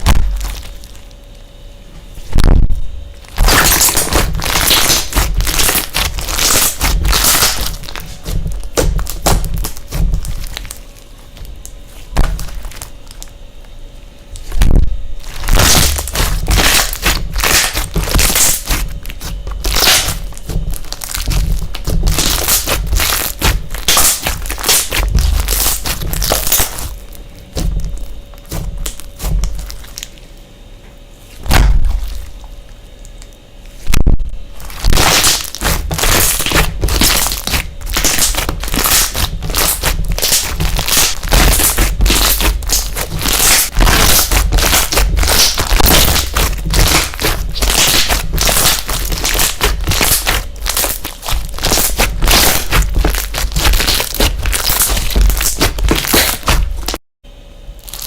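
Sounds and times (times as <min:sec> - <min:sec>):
slime crackling and popping: 0:00.0 - 0:01.2, 0:02.3 - 0:13.4, 0:14.4 - 0:30.2, 0:34.5 - 0:57.0, 0:57.8 - 0:58.0.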